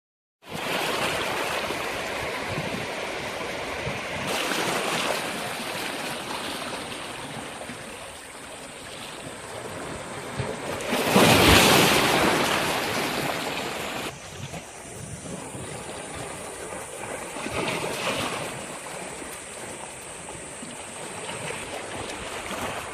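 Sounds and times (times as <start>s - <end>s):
sea waves washing ashore: 0.4s - 22.9s.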